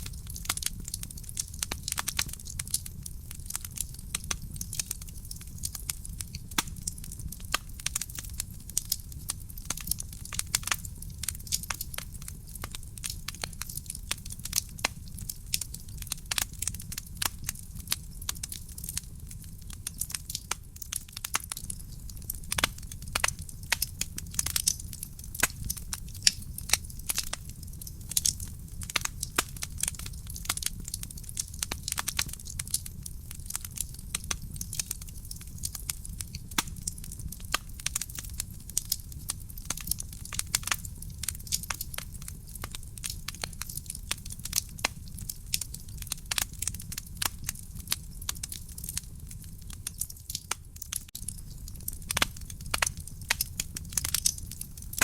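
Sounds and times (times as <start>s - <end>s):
low rumble of flames: 0.0s - 55.0s
wood fire pops and crackles: 0.0s - 55.0s.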